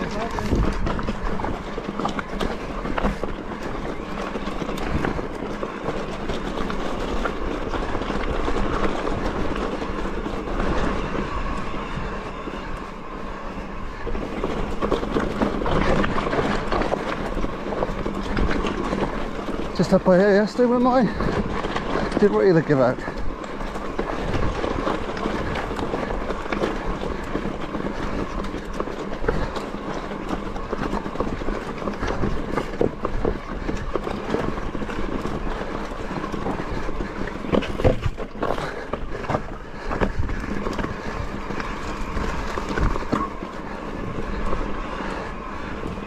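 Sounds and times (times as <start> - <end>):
bike knocking on rocks: 0.0 - 11.0, 14.0 - 46.0
bike tyres rattling over stones: 0.0 - 46.0.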